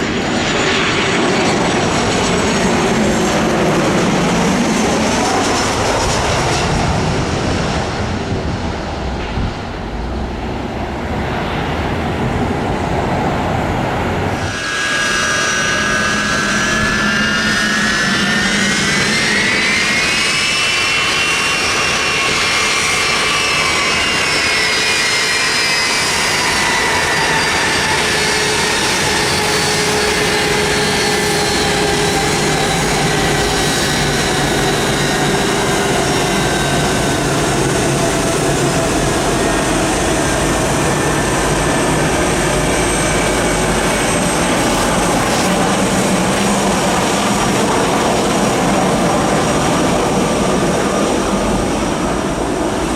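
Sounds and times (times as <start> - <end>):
jet engine noise: 0.0 - 52.9
jet engine whine: 0.0 - 52.9.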